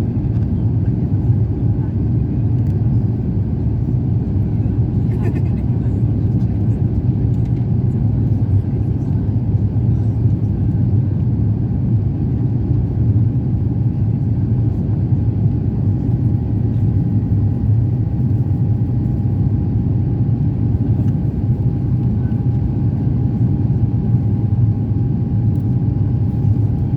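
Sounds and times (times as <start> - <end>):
airplane engine and airflow rumble: 0.0 - 26.9.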